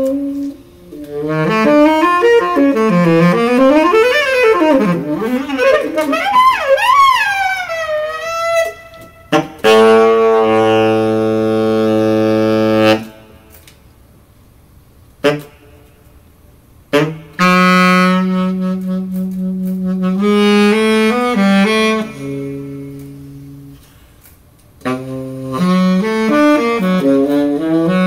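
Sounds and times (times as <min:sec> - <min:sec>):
saxophones playing together: 0:00.0 - 0:13.5, 0:15.2 - 0:15.9, 0:16.9 - 0:24.1, 0:24.8 - 0:28.0.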